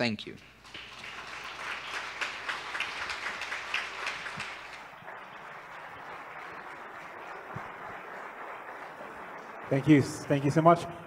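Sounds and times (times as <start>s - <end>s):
audience applause: 0.6s - 11.0s.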